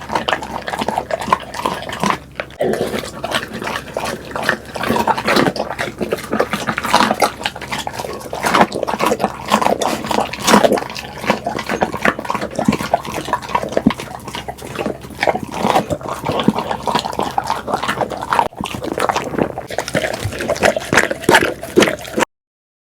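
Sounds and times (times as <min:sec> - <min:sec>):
dog chewing and smacking: 0:00.0 - 0:22.3.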